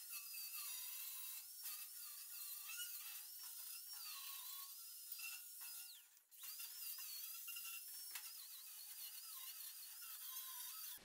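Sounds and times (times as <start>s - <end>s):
angle grinder whining on steel: 0.0s - 11.0s.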